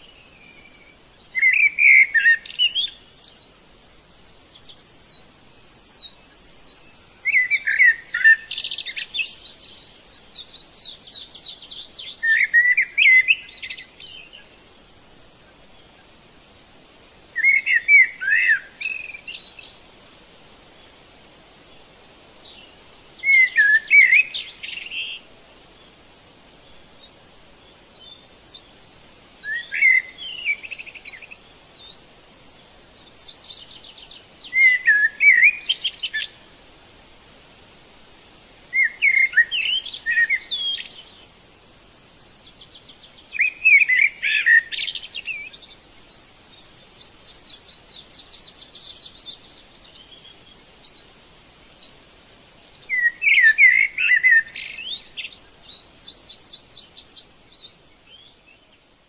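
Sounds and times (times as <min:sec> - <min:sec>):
songbird singing trills: 0:00.0 - 0:16.2, 0:17.2 - 0:20.0, 0:21.6 - 0:36.6, 0:38.6 - 0:59.0
soft bird chirps: 0:00.0 - 0:36.7, 0:37.7 - 0:59.0.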